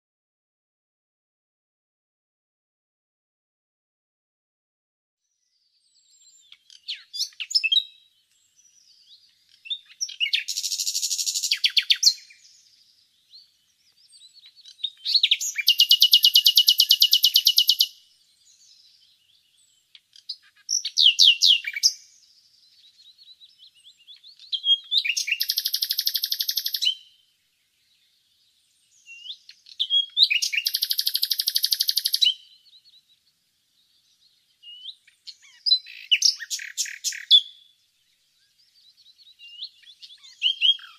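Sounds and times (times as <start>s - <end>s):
nightingale singing: 5.3s - 40.9s.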